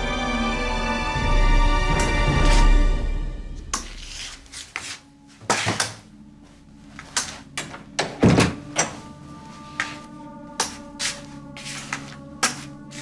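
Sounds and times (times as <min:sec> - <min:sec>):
soft sustained music tones: 0:00.0 - 0:13.0.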